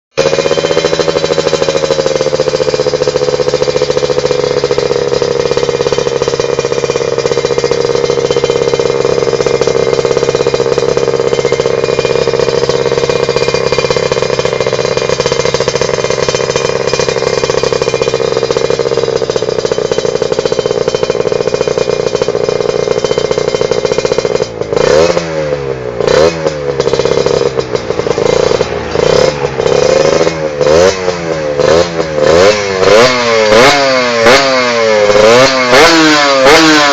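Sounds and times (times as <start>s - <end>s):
two-stroke motorcycle engine revving: 0.1s - 36.9s.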